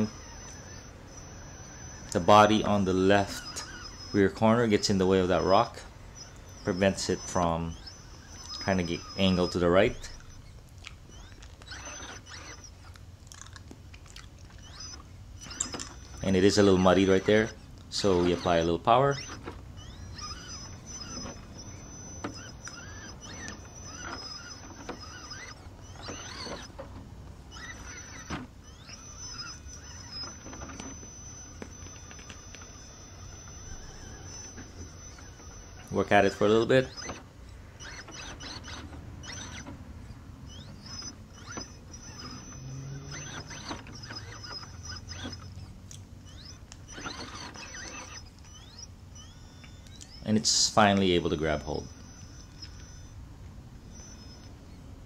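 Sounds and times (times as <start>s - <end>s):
electric motor whining: 0.0s - 55.0s
sharp clicks: 0.0s - 55.0s.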